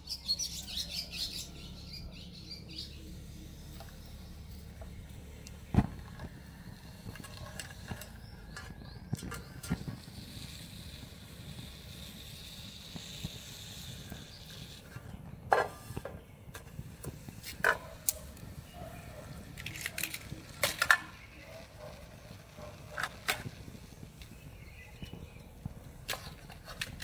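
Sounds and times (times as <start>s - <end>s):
low rumble of flames: 1.0s - 27.0s
melting plastic hissing: 2.4s - 27.0s.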